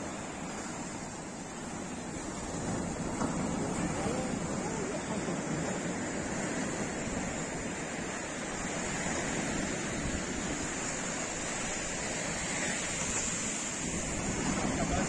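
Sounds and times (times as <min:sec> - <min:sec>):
waves breaking on a sandy beach: 0:00.0 - 0:15.0.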